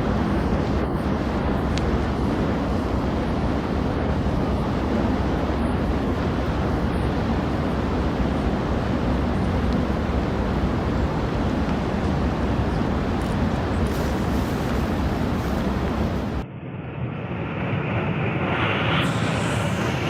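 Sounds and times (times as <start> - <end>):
steady low rumbling: 0.0 - 16.4.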